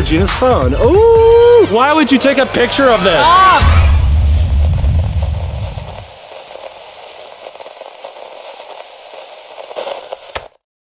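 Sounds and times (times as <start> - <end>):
crackling static hiss: 1.3 - 10.6.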